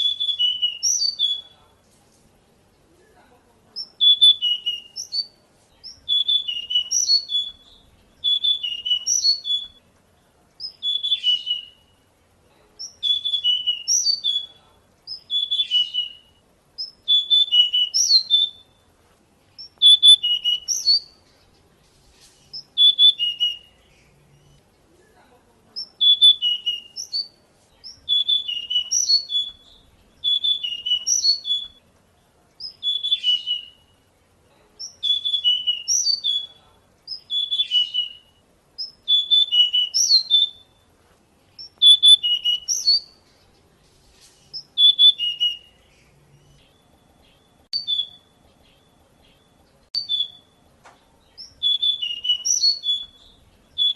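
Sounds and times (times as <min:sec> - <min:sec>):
bird singing warbled phrases: 0:00.0 - 0:01.8, 0:02.7 - 0:43.8, 0:44.4 - 0:53.9.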